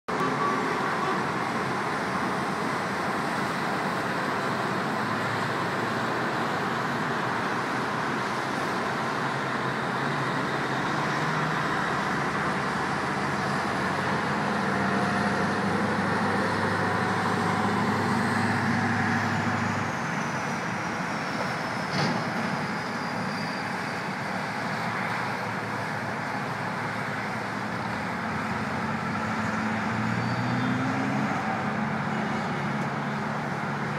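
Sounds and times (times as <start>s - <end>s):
dense road traffic: 0.1s - 33.9s.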